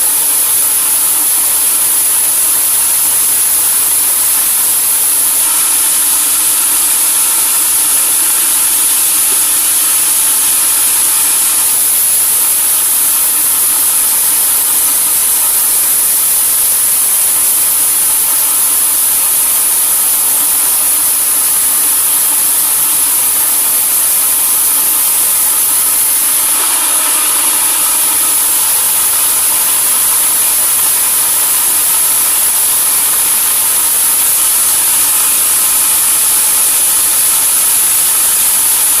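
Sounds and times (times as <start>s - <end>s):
sawmill machinery drone: 0.0s - 39.0s.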